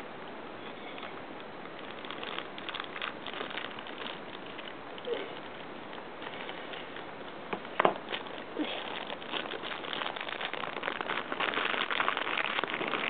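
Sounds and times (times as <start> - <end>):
plastic bag crinkling: 0.8 - 13.0.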